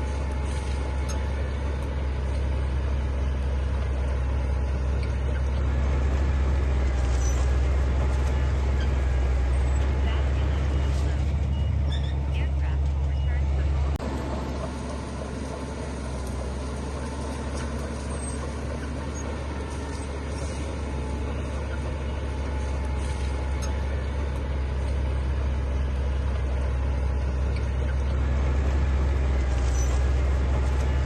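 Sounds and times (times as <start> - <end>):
heavy diesel machinery rumble: 0.0 - 31.0.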